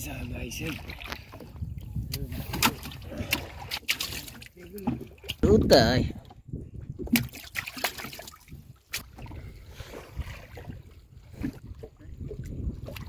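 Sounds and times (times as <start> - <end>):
wind on microphone: 0.0 - 3.7, 5.3 - 7.4, 8.2 - 13.0
water splashing from wading: 0.0 - 6.3, 7.0 - 13.0.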